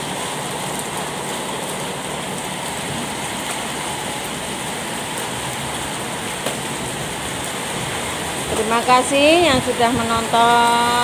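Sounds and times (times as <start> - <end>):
heavy rain on roof: 0.0 - 11.0.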